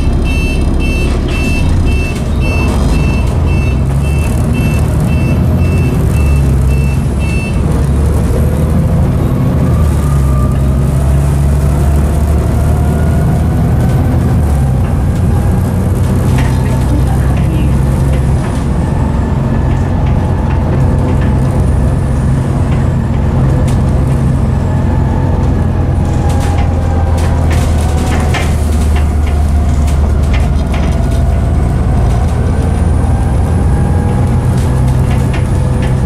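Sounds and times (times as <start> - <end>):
bus body rattles and clicks: 0.0 - 36.0
bus diesel engine droning: 0.0 - 36.0.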